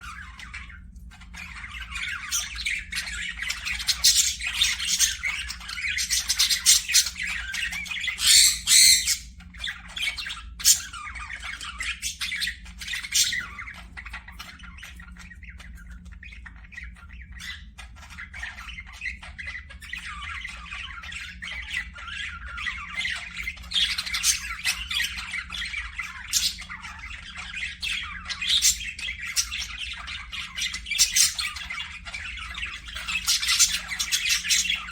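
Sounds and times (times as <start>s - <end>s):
parakeets chattering and squawking: 0.0s - 34.9s.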